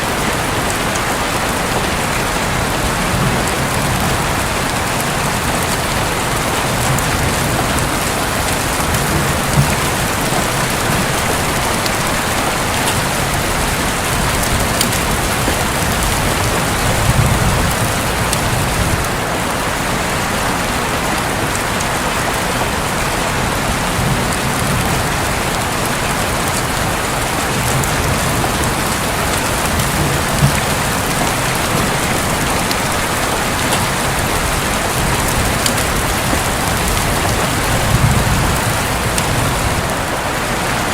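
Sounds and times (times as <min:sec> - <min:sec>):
distant thunder rumbles: 0:00.0 - 0:20.7, 0:21.4 - 0:40.9
heavy rain on a roof: 0:00.0 - 0:40.9.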